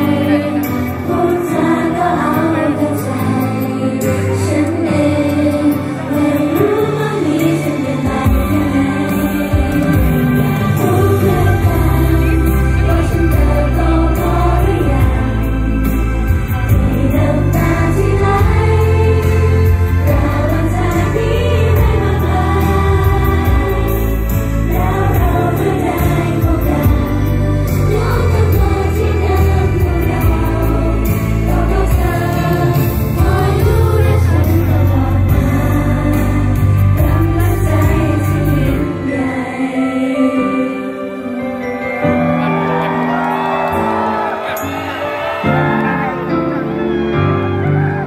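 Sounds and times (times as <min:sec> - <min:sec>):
women singing in unison: 0:00.0 - 0:41.7.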